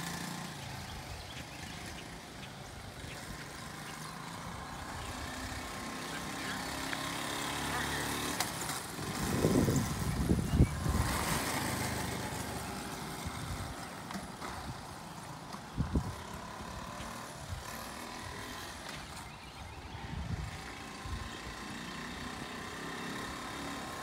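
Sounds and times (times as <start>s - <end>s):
small motorbike engine running: 0.0s - 24.0s.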